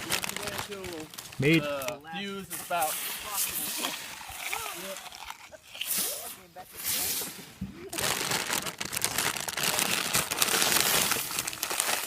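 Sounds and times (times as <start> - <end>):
firework hissing and crackling: 0.0 - 12.0.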